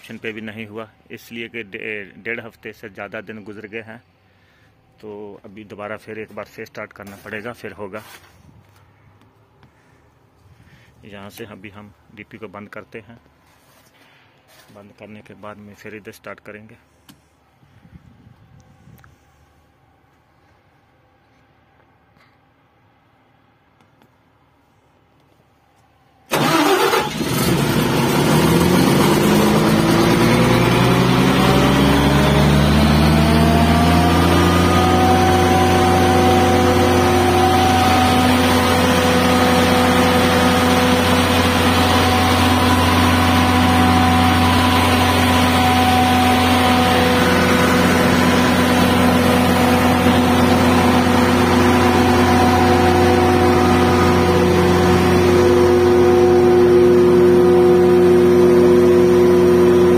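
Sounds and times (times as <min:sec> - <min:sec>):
diesel generator starting and running: 0:00.0 - 0:59.9.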